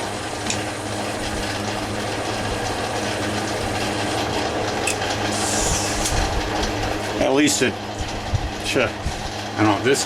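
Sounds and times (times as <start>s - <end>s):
metal lathe running: 0.0s - 10.0s.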